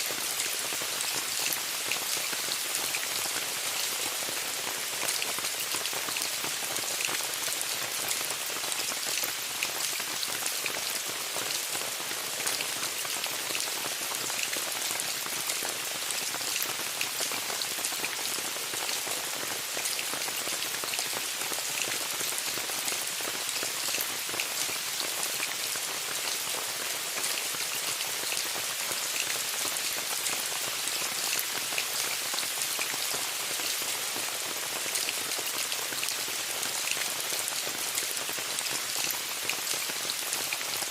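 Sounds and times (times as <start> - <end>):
rain falling on a tent: 0.0 - 40.9.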